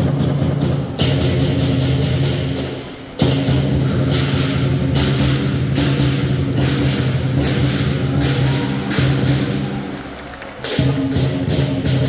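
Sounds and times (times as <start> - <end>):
cymbals clashing: 0.0 - 12.0
large drum beating: 0.0 - 12.0.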